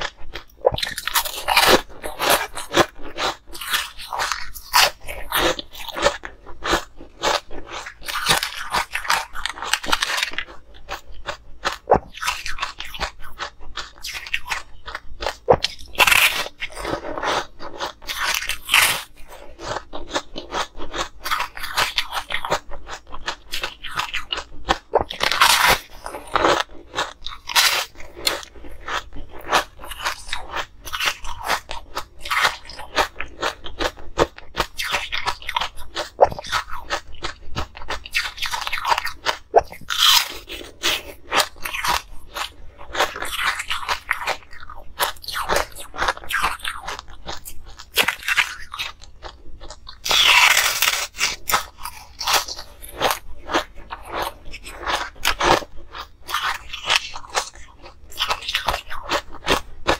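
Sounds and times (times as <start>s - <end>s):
ice crunching being chewed: 0.0s - 59.9s.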